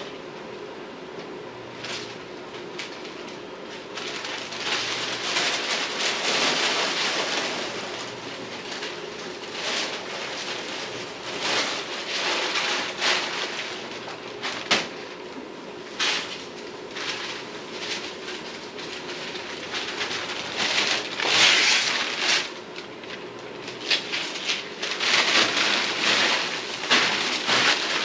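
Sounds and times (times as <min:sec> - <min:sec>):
paper and tape crinkling: 0:01.8 - 0:15.2, 0:15.8 - 0:28.0.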